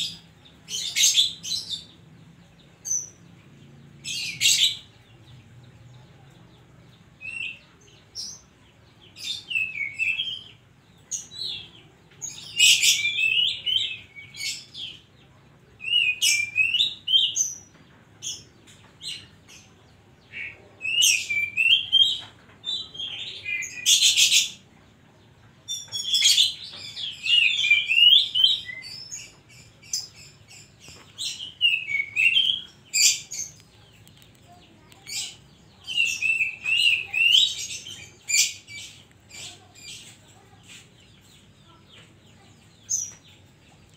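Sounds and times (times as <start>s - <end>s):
magpie-robin singing: 0.0s - 5.5s, 6.9s - 15.2s, 15.8s - 24.7s, 25.6s - 43.9s.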